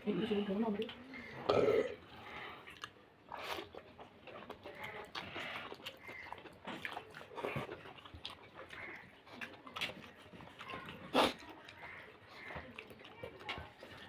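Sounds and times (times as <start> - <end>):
person chewing food: 0.8 - 14.0.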